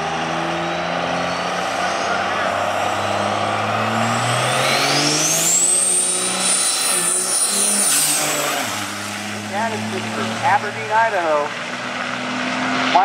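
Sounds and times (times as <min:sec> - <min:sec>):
diesel truck engine: 0:00.0 - 0:13.0
turbo whine: 0:00.0 - 0:13.0.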